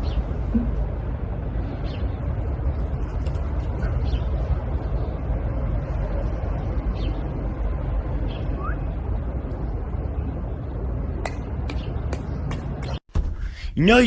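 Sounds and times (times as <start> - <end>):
low rumbling noise: 0.0 - 13.7.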